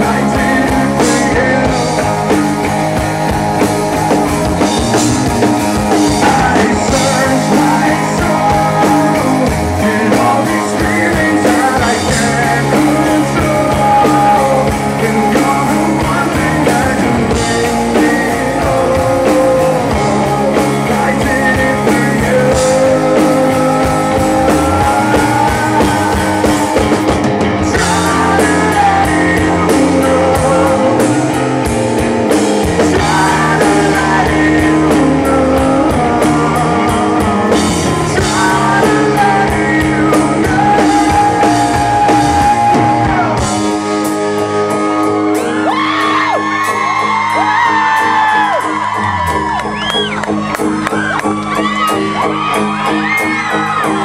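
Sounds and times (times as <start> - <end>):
person singing lead vocal: 0.0 - 50.2
bass guitar: 0.0 - 54.0
distorted electric guitars: 0.0 - 54.0
drum kit: 0.0 - 54.0.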